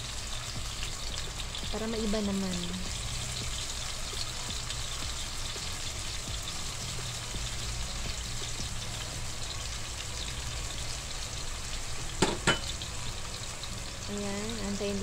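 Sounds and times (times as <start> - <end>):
tomato slices sizzling in oil: 0.0 - 15.0.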